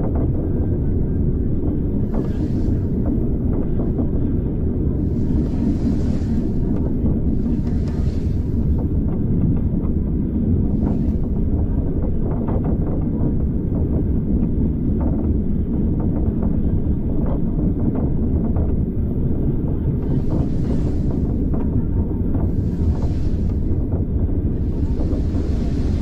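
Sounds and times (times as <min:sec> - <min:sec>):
railway carriage rumbling on track: 0:00.0 - 0:17.1, 0:17.8 - 0:26.0.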